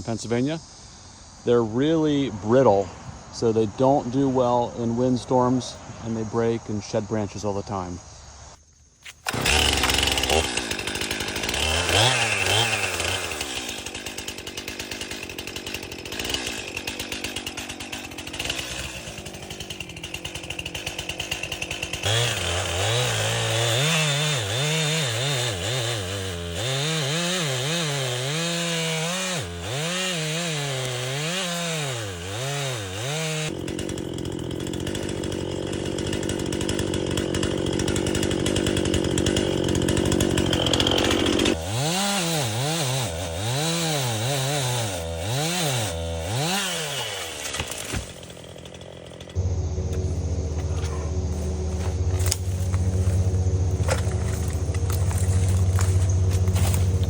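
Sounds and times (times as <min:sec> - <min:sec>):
chainsaw cutting wood: 0:09.0 - 0:57.0.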